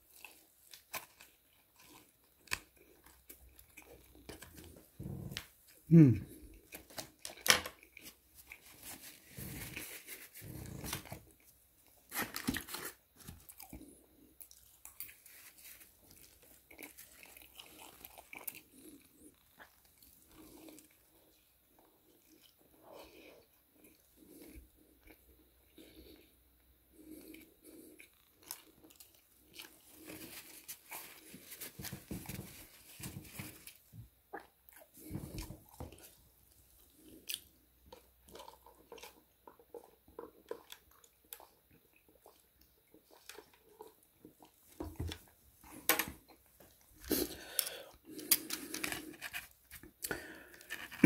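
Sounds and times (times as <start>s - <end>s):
person chewing crunchy food: 0.0s - 51.0s.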